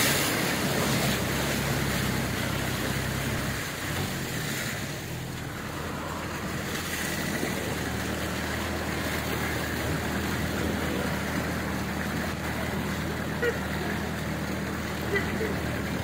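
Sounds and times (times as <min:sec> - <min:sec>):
low engine hum: 0:00.0 - 0:16.0
water splashing off vehicle: 0:00.0 - 0:16.0.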